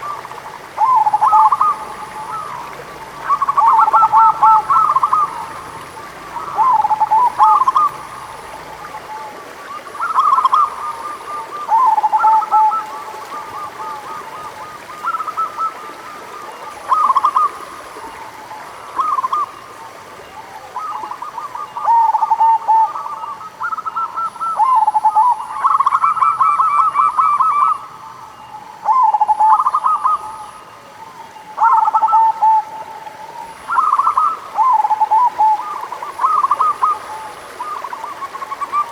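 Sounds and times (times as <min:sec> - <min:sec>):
dove cooing: 0:00.0 - 0:30.7, 0:31.6 - 0:38.9.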